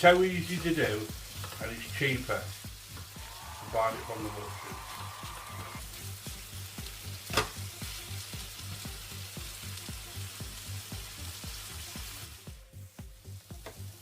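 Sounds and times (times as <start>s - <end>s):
chicken sizzling in a frying pan: 0.0s - 14.0s.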